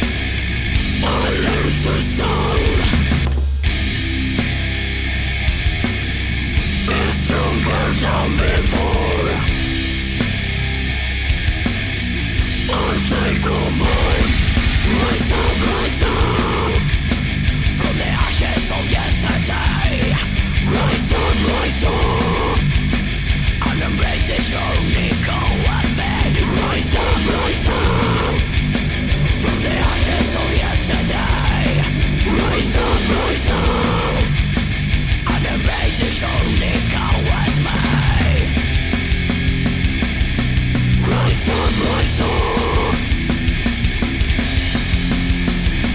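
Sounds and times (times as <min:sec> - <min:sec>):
heavy metal music: 0:00.0 - 0:45.9.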